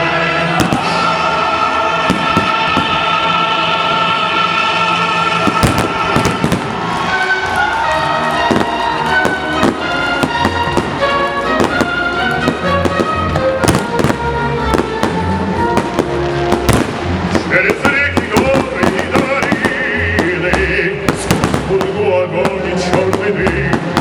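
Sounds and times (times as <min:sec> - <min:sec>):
music over loudspeakers: 0:00.0 - 0:24.0.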